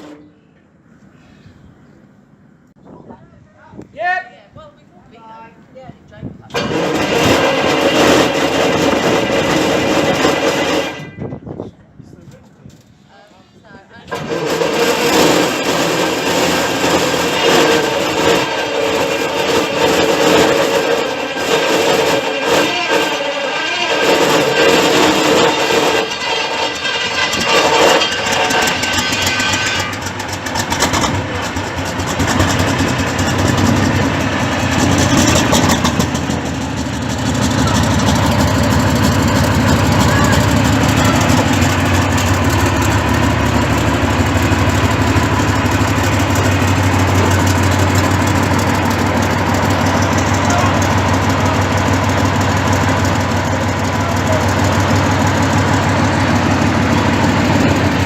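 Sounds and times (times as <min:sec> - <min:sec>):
tank engine idling: 0:06.5 - 0:11.2, 0:14.0 - 0:58.0.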